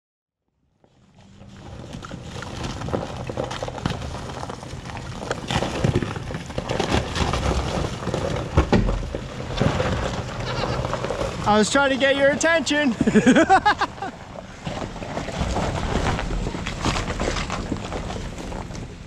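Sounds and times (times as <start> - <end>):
tyres crunching over rocks: 0.8 - 19.0.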